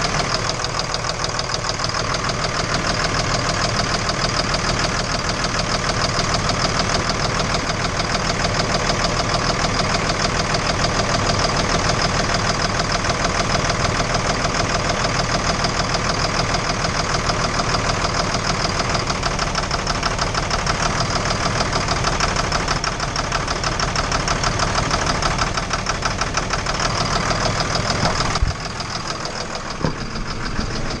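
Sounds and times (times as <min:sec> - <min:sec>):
knocking engine running: 0:00.0 - 0:31.0.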